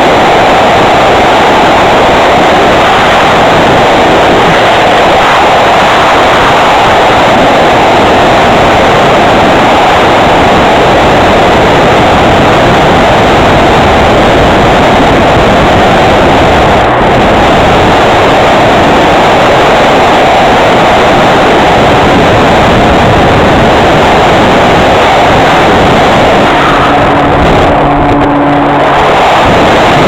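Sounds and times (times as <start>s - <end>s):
propeller noise: 0.0s - 30.0s
wind rush: 0.0s - 30.0s.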